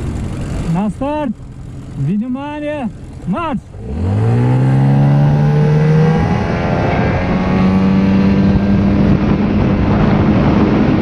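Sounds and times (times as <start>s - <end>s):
outboard motors at full throttle: 0.0s - 11.0s.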